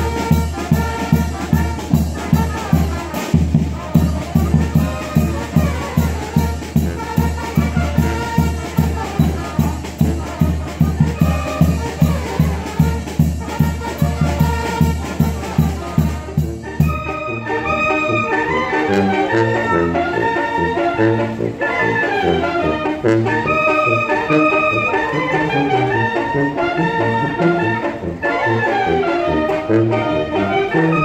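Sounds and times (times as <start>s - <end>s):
brass band playing: 0.0s - 31.0s.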